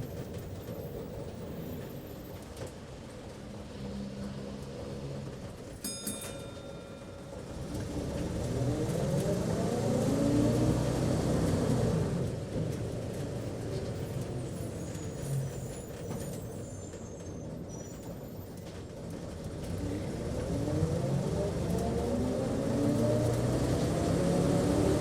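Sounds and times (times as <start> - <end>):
bus engine from inside cabin: 0.0 - 25.0.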